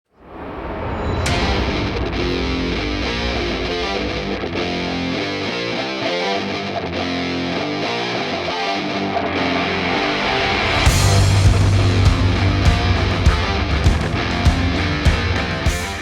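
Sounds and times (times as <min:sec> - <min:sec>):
distorted electric guitar rock: 0:00.8 - 0:16.0.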